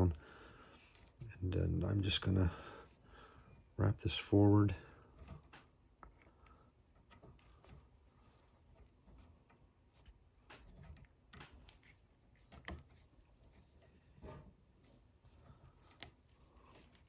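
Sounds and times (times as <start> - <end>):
thread ticks and rustles: 0.0 - 17.0.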